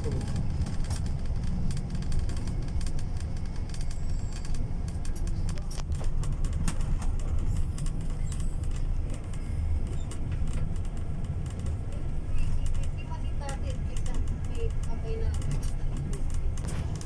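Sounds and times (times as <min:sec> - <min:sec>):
bus engine and road noise: 0:00.0 - 0:17.0
light clicks and rattles: 0:00.0 - 0:17.0.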